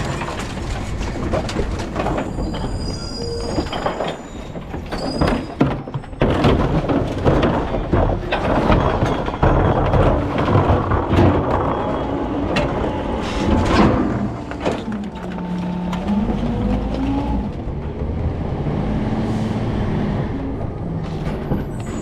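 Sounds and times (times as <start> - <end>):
clatter of rattles and knocks: 0.0 - 18.7, 20.1 - 22.0.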